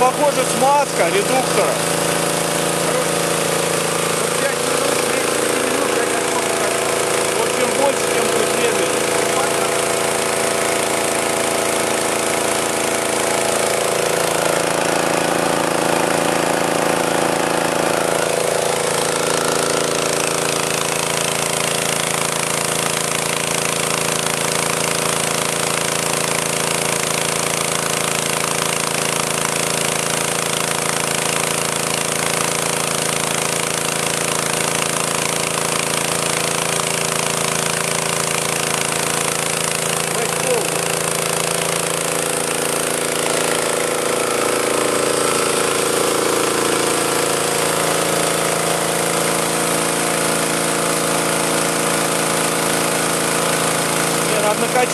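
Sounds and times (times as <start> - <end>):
air compressor engine running: 0.0 - 54.9.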